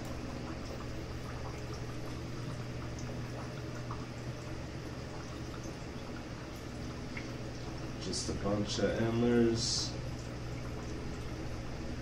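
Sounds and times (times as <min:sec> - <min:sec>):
water bubbling and trickling: 0:00.0 - 0:12.0.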